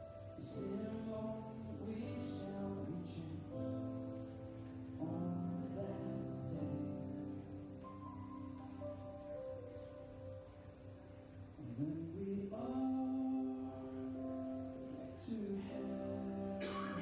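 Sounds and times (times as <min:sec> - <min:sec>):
music of long held chords: 0:00.0 - 0:17.0.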